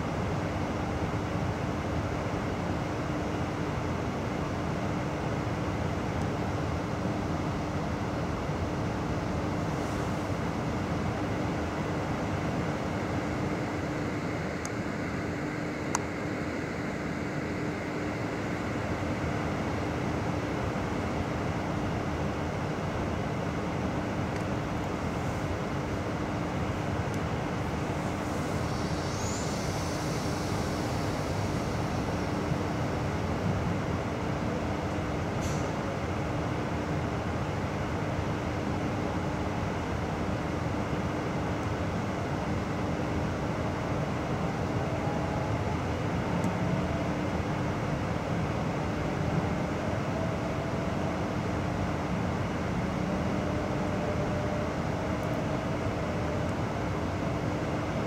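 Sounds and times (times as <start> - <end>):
train rumble inside carriage: 0.0 - 58.0.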